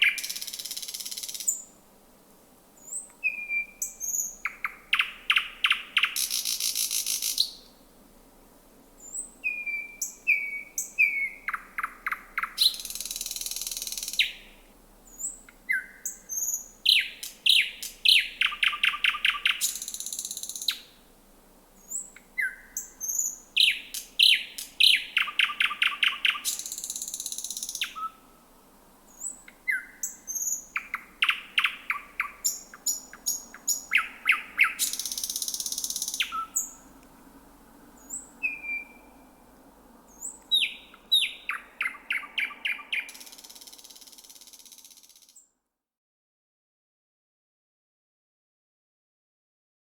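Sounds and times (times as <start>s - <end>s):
nightingale singing: 0.0s - 1.8s, 2.8s - 7.8s, 9.0s - 21.0s, 21.8s - 28.4s, 29.0s - 37.1s, 37.9s - 39.5s, 40.1s - 45.4s.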